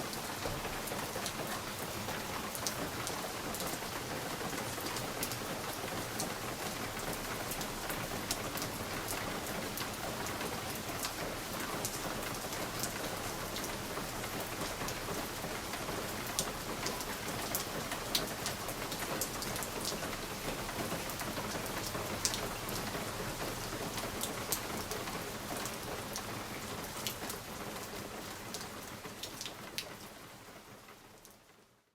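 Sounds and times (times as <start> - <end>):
rain pattering on window glass: 0.1 - 31.6
raindrops ticking on a pane: 0.4 - 31.4.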